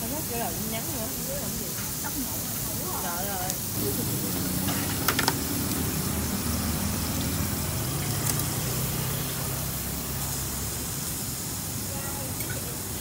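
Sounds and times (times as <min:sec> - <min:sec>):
meat sizzling on grill: 0:00.0 - 0:13.0.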